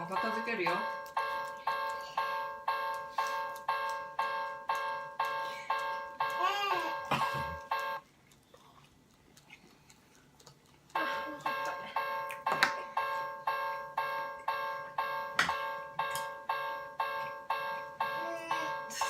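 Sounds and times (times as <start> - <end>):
electronic crossing bell dinging: 0.0 - 6.4, 7.2 - 8.0, 11.0 - 19.0.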